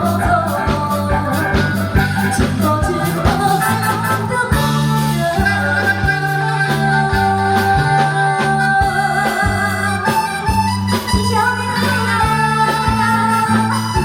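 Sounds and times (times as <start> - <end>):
bass line: 0.0 - 14.0
drums: 0.0 - 14.0
held melody line: 0.0 - 14.0.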